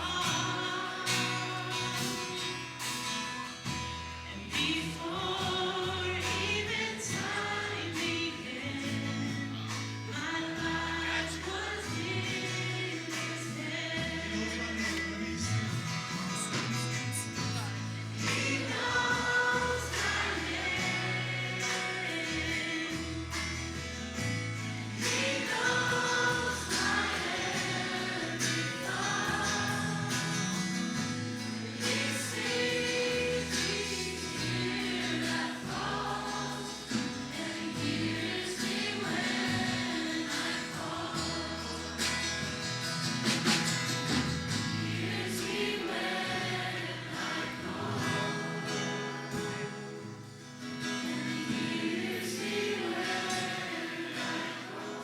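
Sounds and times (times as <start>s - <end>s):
choir singing: 0.0s - 2.6s, 4.8s - 9.6s, 10.2s - 15.2s, 18.1s - 24.0s, 24.8s - 42.6s, 44.6s - 50.4s, 51.0s - 55.0s.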